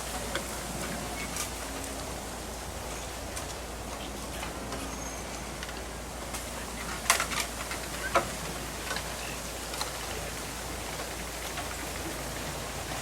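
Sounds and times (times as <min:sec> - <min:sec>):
bamboo stalks clicking and knocking: 0:00.0 - 0:02.1, 0:02.8 - 0:13.0.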